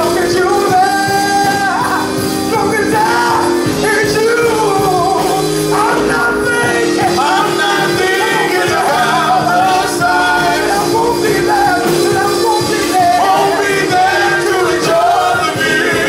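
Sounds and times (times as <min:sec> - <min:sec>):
choir singing gospel: 0:00.0 - 0:16.0
instrumental accompaniment: 0:00.0 - 0:16.0.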